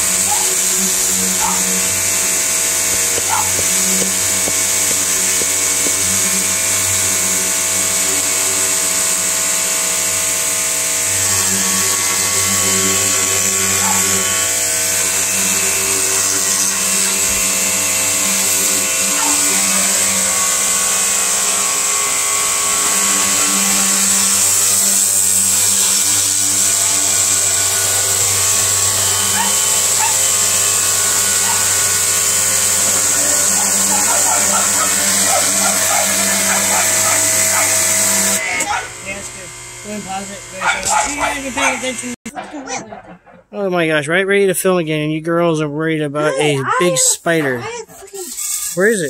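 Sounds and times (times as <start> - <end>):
high-pressure water jet hissing: 0.0 - 42.2, 47.6 - 49.0
pressure washer motor humming: 0.0 - 43.5, 46.6 - 49.0.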